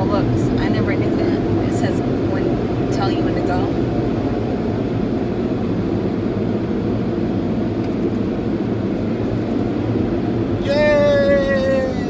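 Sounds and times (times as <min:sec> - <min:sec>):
car wash machinery roaring: 0:00.0 - 0:12.0.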